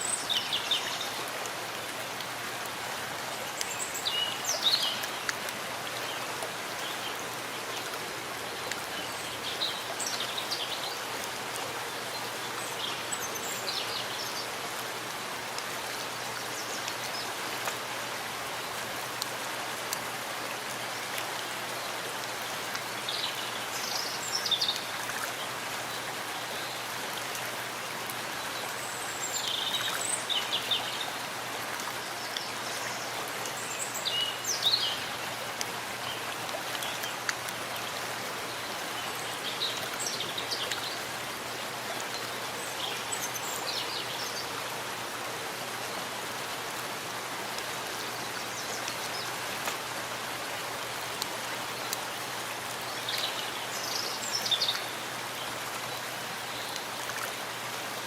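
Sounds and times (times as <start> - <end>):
rain pattering: 1.0 - 56.1.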